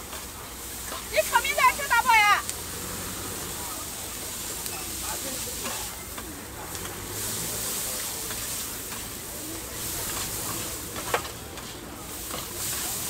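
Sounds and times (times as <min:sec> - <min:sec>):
noodles sizzling on a griddle: 0:00.0 - 0:13.0.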